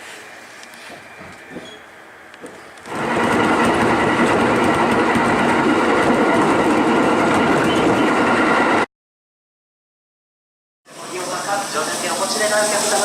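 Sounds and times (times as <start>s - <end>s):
train rumble with whine: 0.0s - 8.8s, 10.9s - 13.0s.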